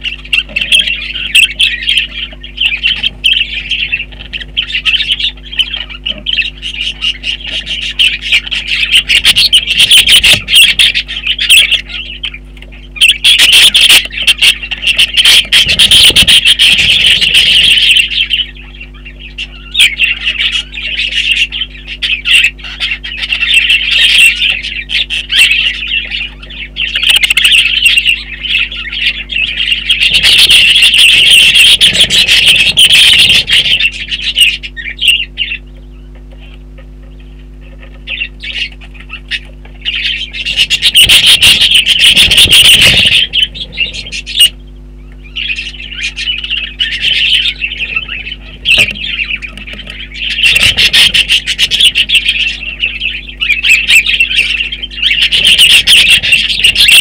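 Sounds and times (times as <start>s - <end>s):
budgerigars chattering and warbling: 0.0s - 57.0s.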